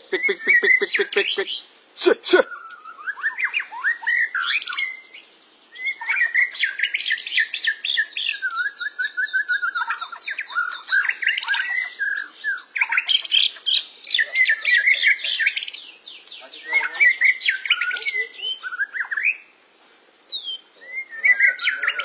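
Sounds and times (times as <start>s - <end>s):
bird singing whistled song: 2.5s - 19.5s, 20.2s - 22.0s.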